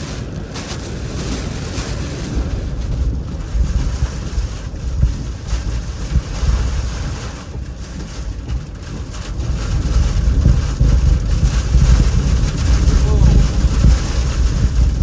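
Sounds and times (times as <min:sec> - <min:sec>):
rain: 0:00.0 - 0:15.0
strong wind gusting: 0:00.9 - 0:15.0.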